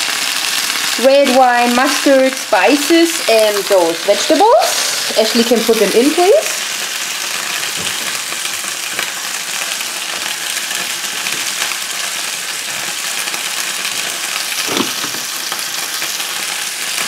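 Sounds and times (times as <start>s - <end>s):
beef sizzling in a pan: 0.0s - 17.0s.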